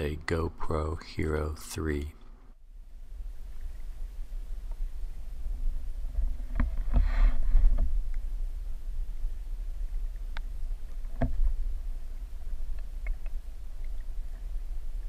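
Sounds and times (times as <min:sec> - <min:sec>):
muffled underwater water rumble: 0:02.7 - 0:15.0.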